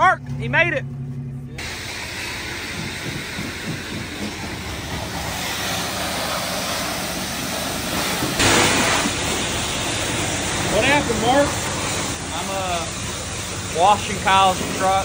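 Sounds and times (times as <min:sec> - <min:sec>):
pressure washer spraying water: 0:01.6 - 0:15.0.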